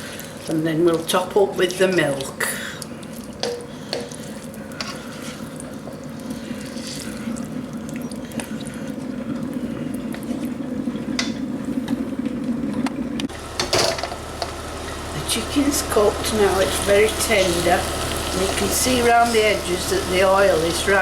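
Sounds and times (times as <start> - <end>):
curry sauce bubbling in a wok: 2.6 - 13.6, 14.2 - 21.0.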